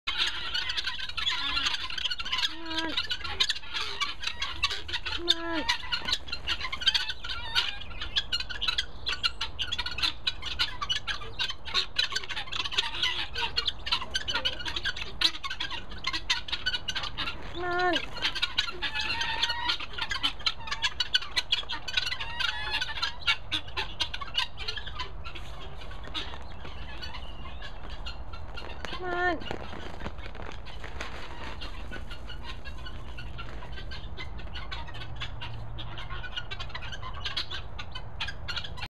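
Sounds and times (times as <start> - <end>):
guineafowl clicking chatter: 0.1 - 38.9
low bending guineafowl calls: 0.1 - 38.9.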